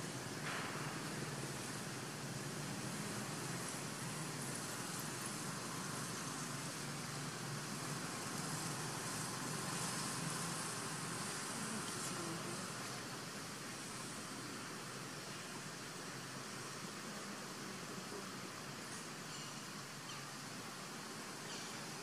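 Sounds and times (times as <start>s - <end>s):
background rumble and hiss: 0.0s - 22.0s.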